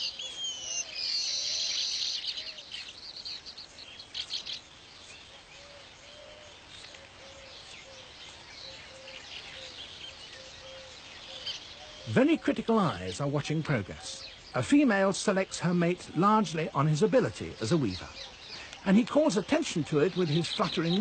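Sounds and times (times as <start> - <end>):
weaver birds chattering: 0.0 - 21.0.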